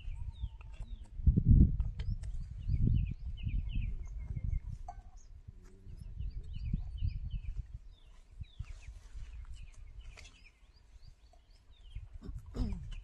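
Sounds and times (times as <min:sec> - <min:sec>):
small birds chirping: 0:00.0 - 0:01.2, 0:01.8 - 0:13.0.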